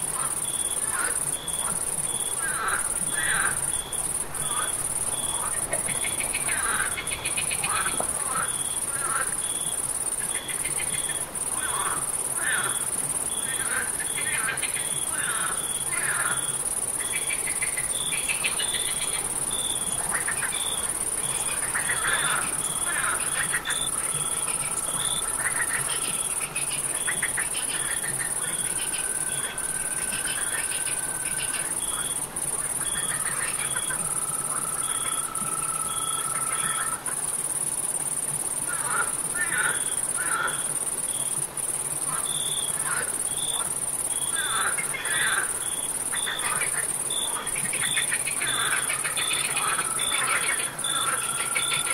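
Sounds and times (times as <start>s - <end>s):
cricket chirping: 0.0s - 51.9s
frogs trilling: 0.0s - 51.9s
high insect hiss: 0.0s - 51.9s.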